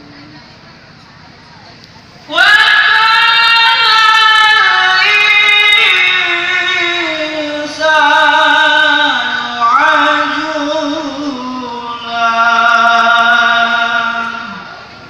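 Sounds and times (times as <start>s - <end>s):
man chanting into a microphone: 2.3s - 14.9s.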